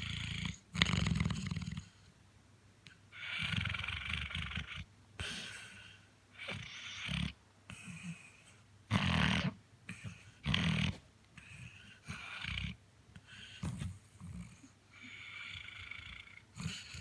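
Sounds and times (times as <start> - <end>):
dog snoring: 0.0 - 2.1, 3.1 - 17.0.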